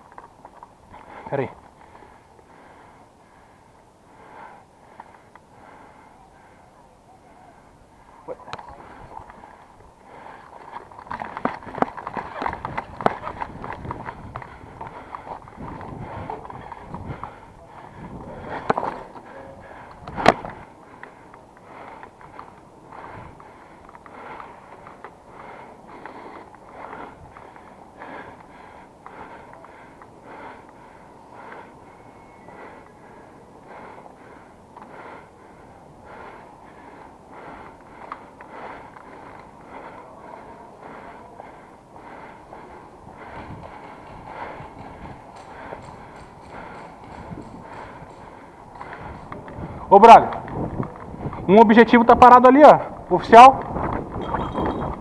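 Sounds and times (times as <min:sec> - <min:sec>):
person breathing: 0:00.9 - 0:51.5.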